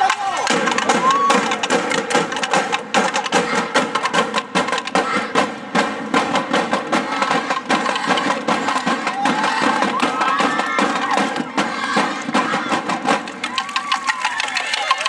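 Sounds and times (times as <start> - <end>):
snare and bass drums beating: 0.0 - 15.0.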